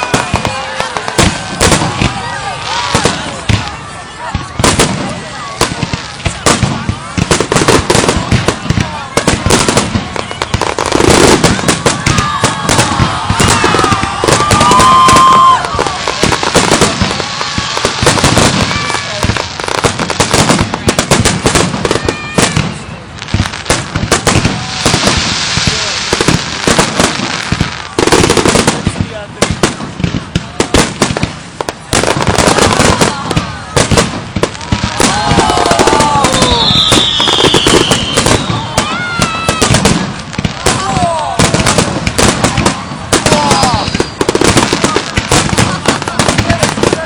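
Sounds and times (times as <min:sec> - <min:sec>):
fireworks crackling and banging: 0:00.0 - 0:47.0
fireworks whistling: 0:00.0 - 0:47.0.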